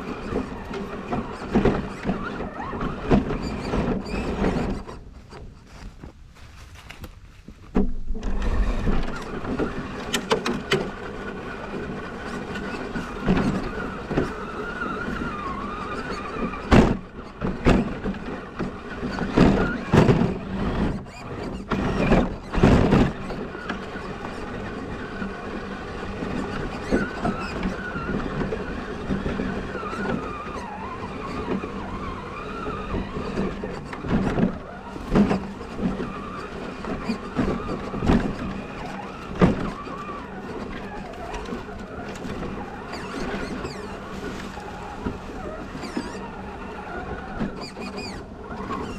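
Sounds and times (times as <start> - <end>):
electric motor and gears whining: 0.0 - 48.9.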